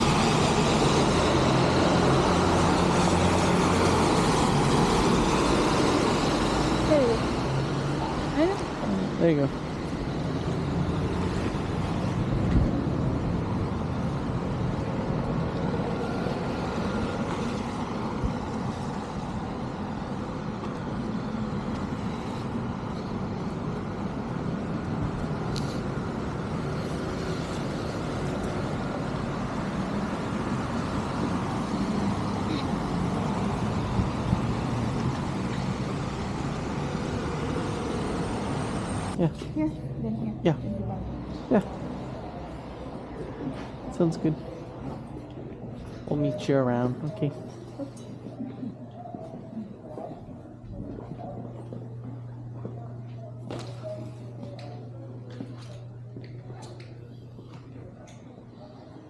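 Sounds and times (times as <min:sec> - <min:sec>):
road traffic rumbling: 0:00.0 - 0:59.0.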